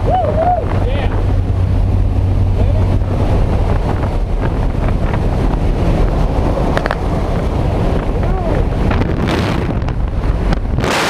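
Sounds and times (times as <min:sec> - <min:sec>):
low hum: 0:00.0 - 0:11.0
wind buffeting microphone: 0:00.0 - 0:11.0.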